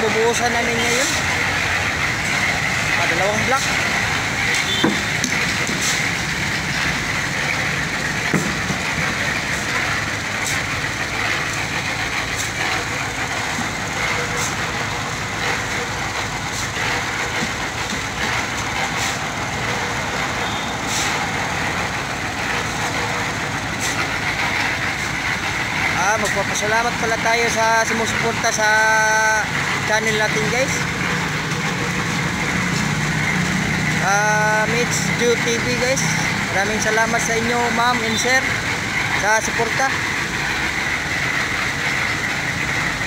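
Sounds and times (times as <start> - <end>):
concrete mixer engine running: 0.0 - 43.0.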